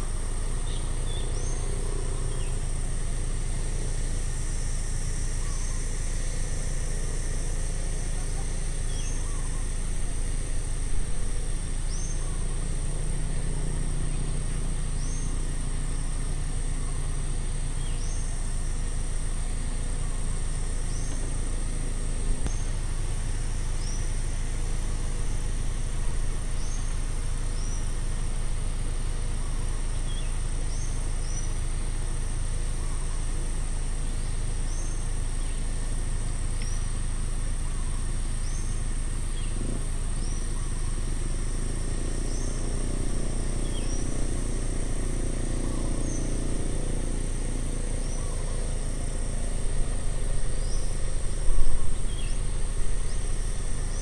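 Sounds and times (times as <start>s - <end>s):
high insect drone: 0.0s - 54.0s
low road traffic rumble: 0.0s - 54.0s.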